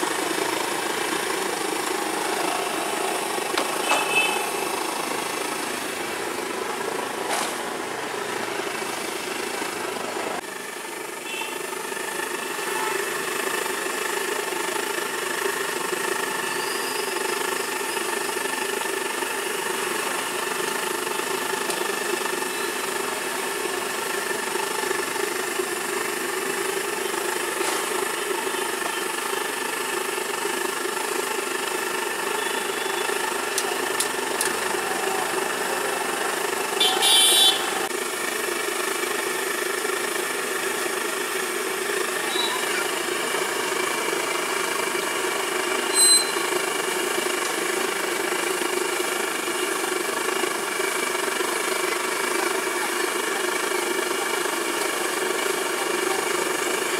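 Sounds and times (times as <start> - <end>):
street traffic hum: 0.0 - 56.9.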